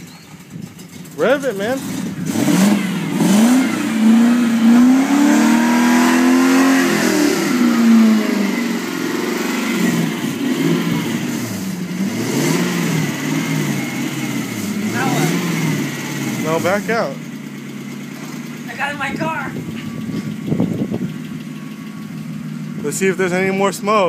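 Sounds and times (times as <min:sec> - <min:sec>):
car engine revving: 0:00.7 - 0:24.0.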